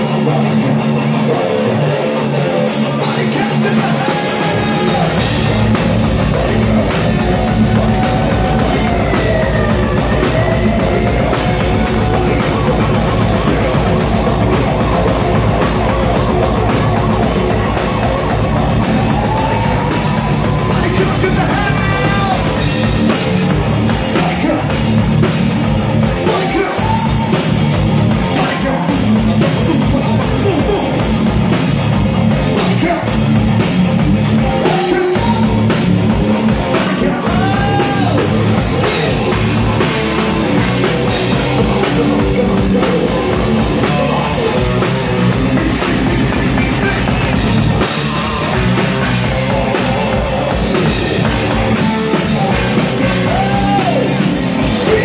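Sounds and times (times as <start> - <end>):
person singing: 0.0 - 25.0, 26.0 - 31.2, 34.3 - 55.0
drum kit: 0.0 - 55.0
electric guitars: 0.0 - 55.0.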